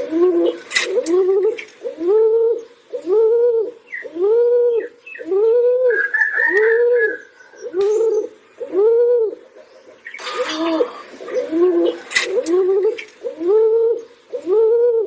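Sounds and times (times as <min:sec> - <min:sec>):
pigeon cooing: 0:00.0 - 0:15.0.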